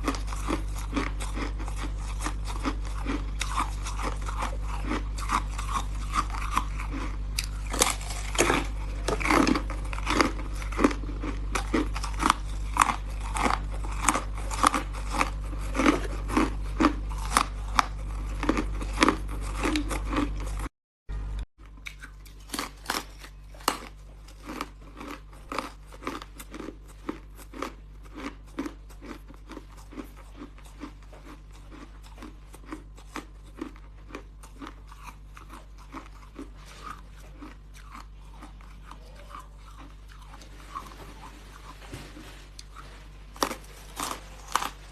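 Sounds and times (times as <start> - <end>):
ice crunching being chewed: 0.0 - 20.7, 21.6 - 44.9
low steady hum: 0.0 - 44.9.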